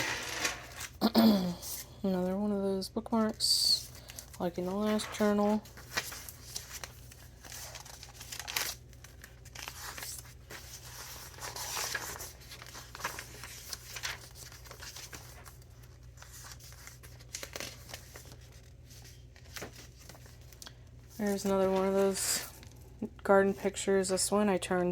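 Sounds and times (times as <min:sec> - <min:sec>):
paper rustling and crinkling: 0:00.0 - 0:01.0, 0:03.1 - 0:22.9.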